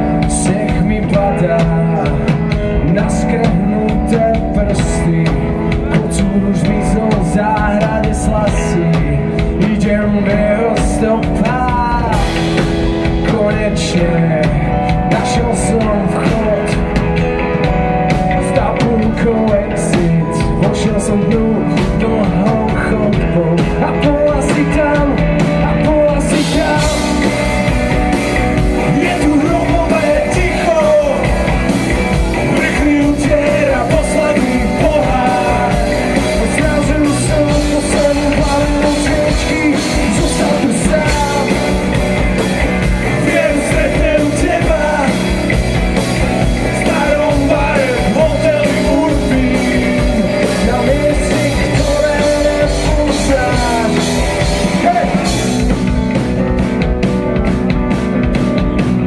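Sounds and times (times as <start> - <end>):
man singing: 0.0 - 56.0
live rock band playing: 0.0 - 59.0.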